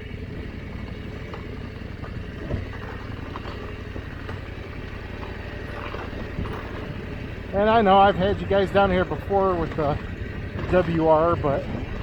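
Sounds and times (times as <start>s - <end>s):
motorcycle engine low drone: 0.0s - 12.0s.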